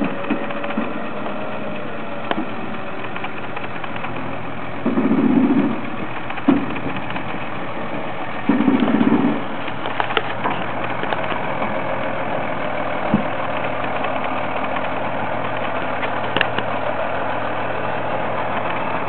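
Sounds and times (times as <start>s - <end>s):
diesel engine running at low revs: 0.0s - 19.0s.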